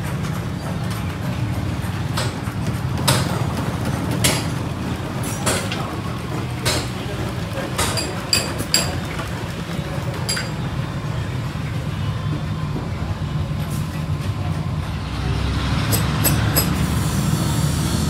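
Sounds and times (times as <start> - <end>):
low workshop hum: 0.0 - 18.0.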